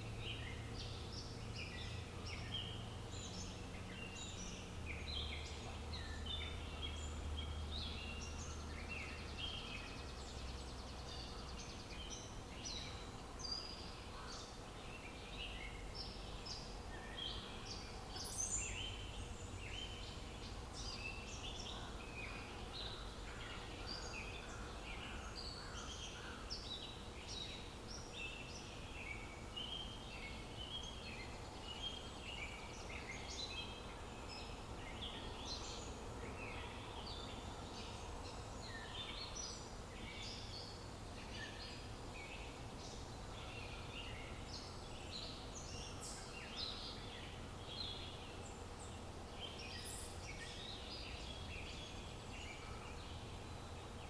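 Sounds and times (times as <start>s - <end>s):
many small birds chirping: 0.0s - 54.0s.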